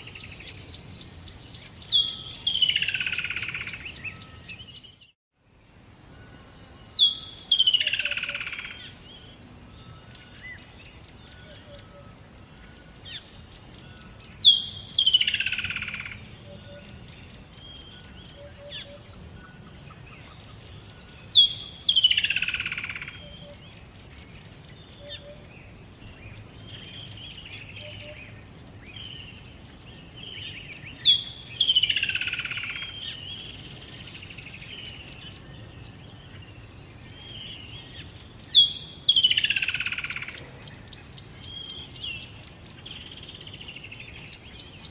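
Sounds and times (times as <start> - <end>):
soft bird chirps: 0.0 - 44.9.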